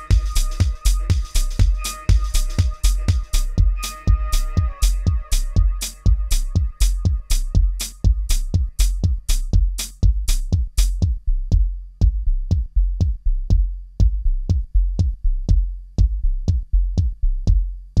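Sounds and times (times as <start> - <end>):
deep bass: 0.0 - 18.0
kick drum: 0.0 - 18.0.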